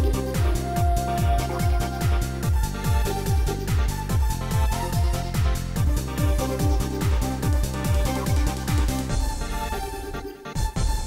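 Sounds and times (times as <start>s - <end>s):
four-on-the-floor kick drum: 0.0s - 9.5s.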